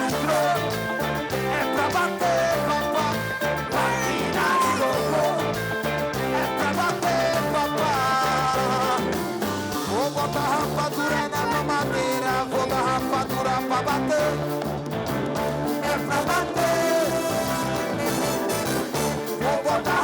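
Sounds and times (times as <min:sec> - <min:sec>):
live ska band music: 0:00.0 - 0:20.0.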